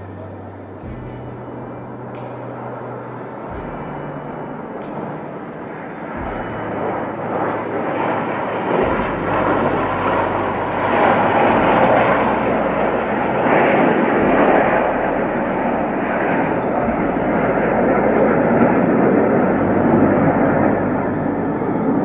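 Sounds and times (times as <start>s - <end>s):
airplane engine roar: 0.0s - 22.0s.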